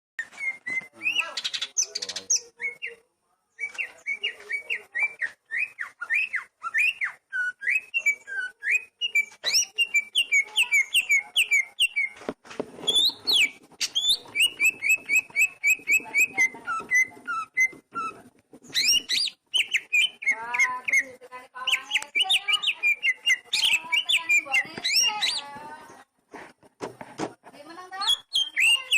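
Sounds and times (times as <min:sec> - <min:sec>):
magpie-robin singing: 0:00.2 - 0:12.2, 0:12.8 - 0:26.0, 0:27.9 - 0:28.9.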